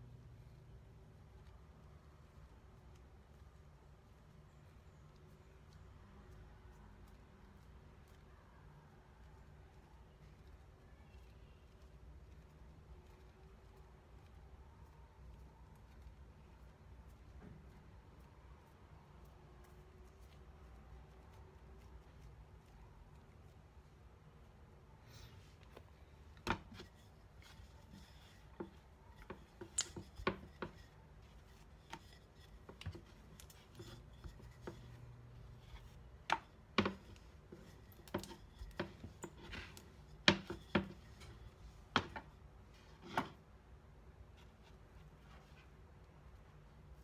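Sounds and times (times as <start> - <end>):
rolling pin rolling dough: 0.0 - 47.0.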